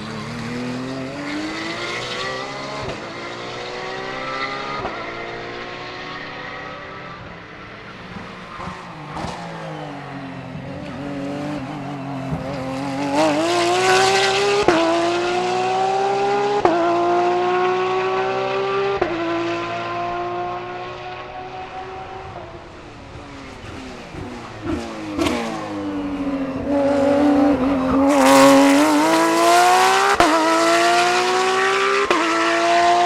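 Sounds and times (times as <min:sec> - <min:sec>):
race car engine accelerating: 0:00.0 - 0:33.0.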